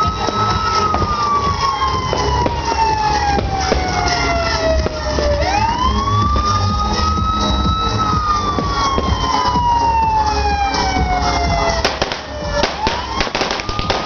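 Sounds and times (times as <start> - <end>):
fireworks bangs crackling: 0.0 - 10.4, 11.2 - 14.0
siren wailing: 0.0 - 14.0.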